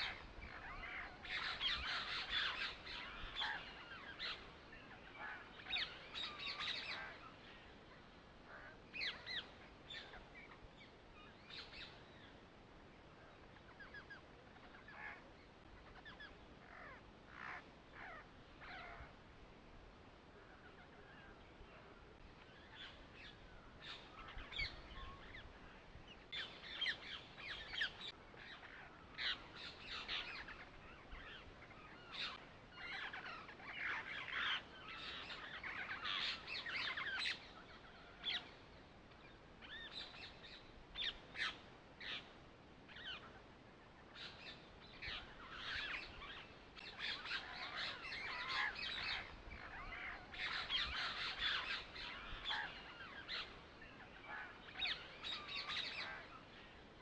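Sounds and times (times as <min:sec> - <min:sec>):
birds chirping and calling: 0:00.0 - 0:12.5, 0:13.3 - 0:19.2, 0:20.4 - 0:57.0.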